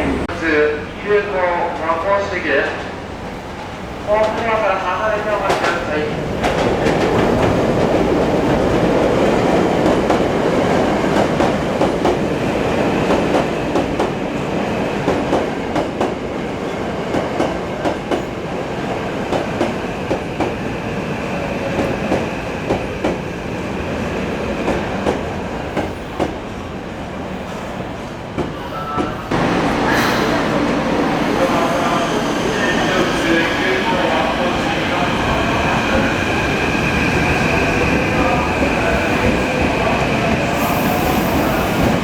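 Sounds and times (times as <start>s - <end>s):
steady train rumble: 0.0s - 42.0s.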